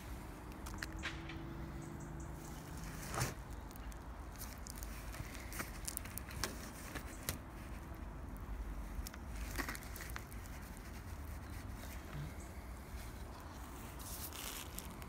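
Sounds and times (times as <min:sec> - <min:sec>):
crackles and rustles of wet compost: 0:00.0 - 0:15.0.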